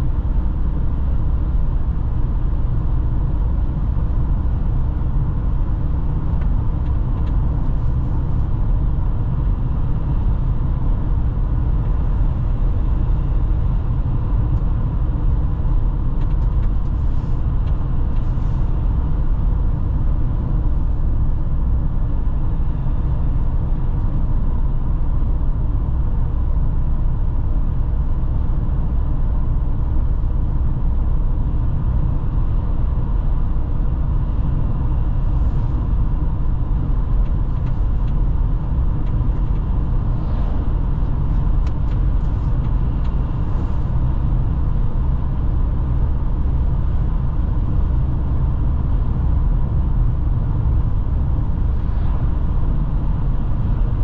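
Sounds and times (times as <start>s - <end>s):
car driving on asphalt: 0.0s - 54.0s.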